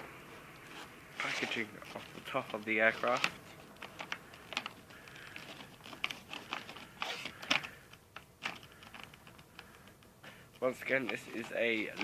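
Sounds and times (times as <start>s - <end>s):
packaging crinkling and rustling: 0.6s - 10.0s, 10.6s - 12.0s
packaging snapping: 1.2s - 10.0s, 10.8s - 12.0s.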